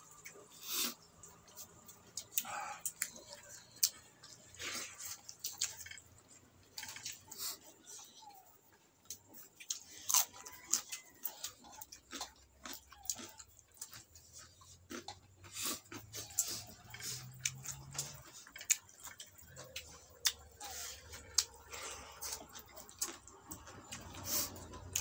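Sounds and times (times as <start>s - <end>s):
chewing and lip smacks: 0.0s - 25.0s.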